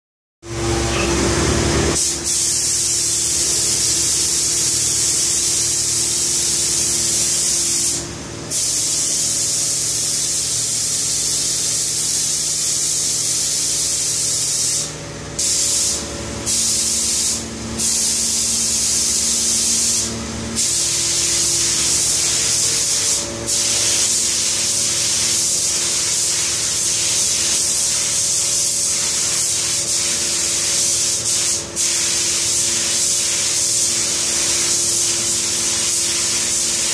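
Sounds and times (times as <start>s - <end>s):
paint spray gun hissing: 1.9s - 36.9s.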